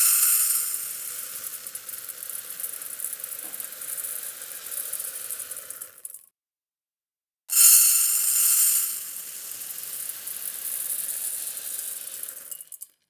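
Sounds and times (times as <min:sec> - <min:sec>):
rice grains pouring into pan: 0:00.0 - 0:06.2, 0:07.5 - 0:12.9.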